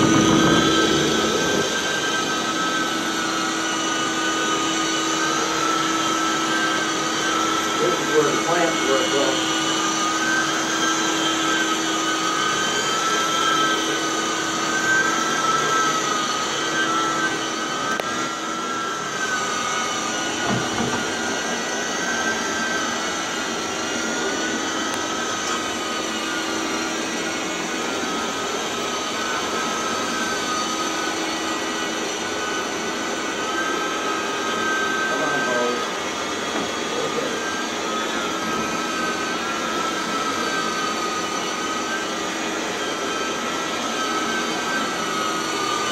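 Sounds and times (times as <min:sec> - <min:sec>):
carpet extractor vacuum whine: 0:00.0 - 0:45.9.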